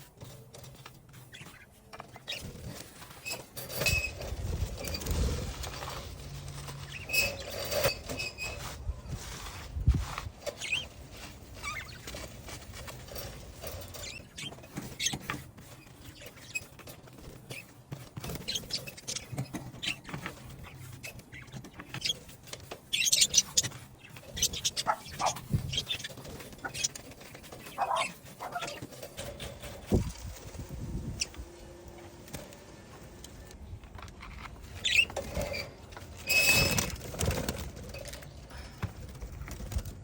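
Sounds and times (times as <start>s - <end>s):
bird cage scraping and rustling: 0.0s - 33.2s, 34.0s - 40.0s.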